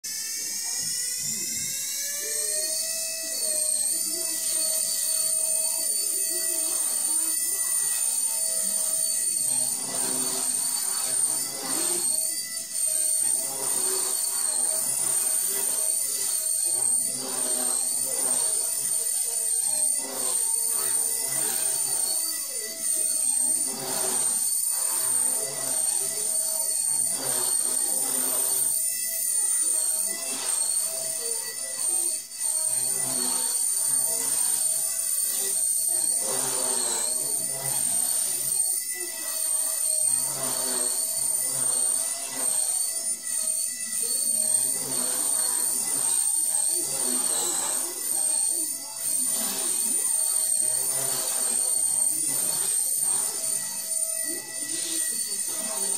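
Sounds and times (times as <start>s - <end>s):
rc helicopter whine: 0.0s - 55.9s.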